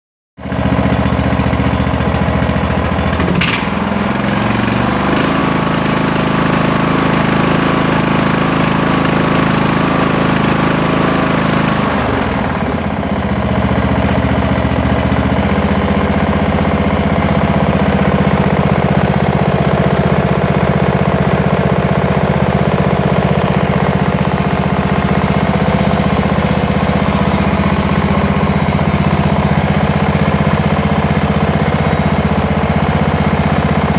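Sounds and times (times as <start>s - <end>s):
small engine running: 0.4s - 33.9s.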